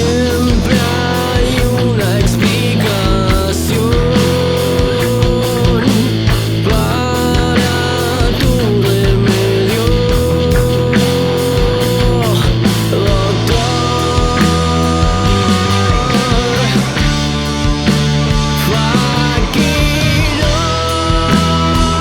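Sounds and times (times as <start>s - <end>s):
bass guitar: 0.0s - 22.0s
distorted electric guitars: 0.0s - 22.0s
drum beat: 0.0s - 22.0s.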